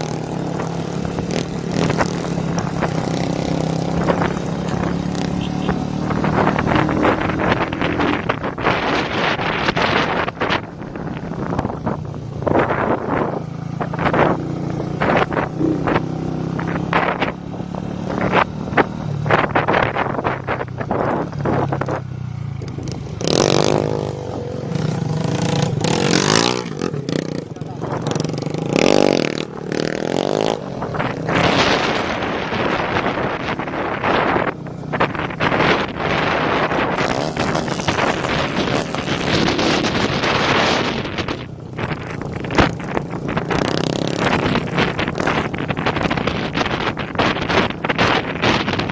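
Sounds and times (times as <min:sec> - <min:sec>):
motorcycle engine running: 0:00.0 - 0:48.9
wind buffeting microphone: 0:05.9 - 0:48.9.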